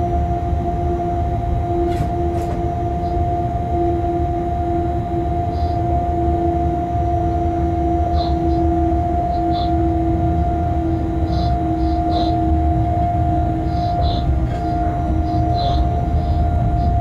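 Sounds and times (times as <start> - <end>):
train cab low rumble: 0.0 - 17.0
two-tone electrical hum: 0.0 - 17.0.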